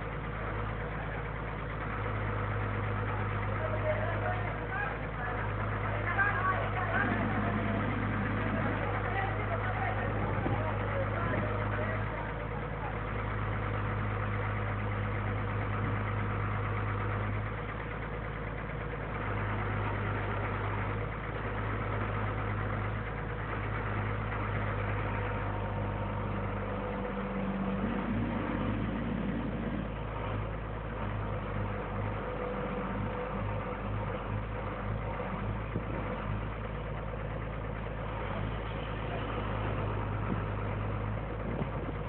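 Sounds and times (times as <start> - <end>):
crane engine humming: 0.0 - 42.0.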